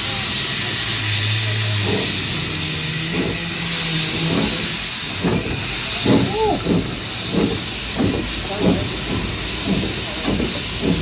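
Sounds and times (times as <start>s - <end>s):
steam hissing from locomotive: 0.0s - 11.0s.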